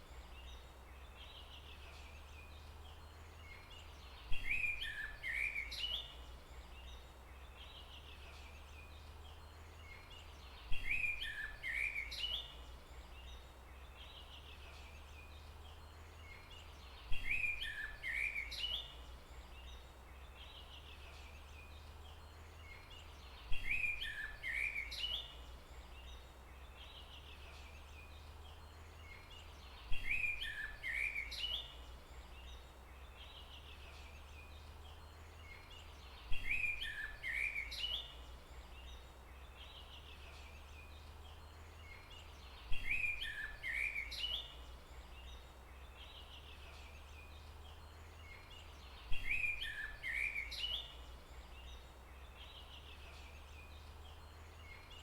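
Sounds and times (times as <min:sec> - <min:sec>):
songbird chirping phrase: 0:00.0 - 0:55.0.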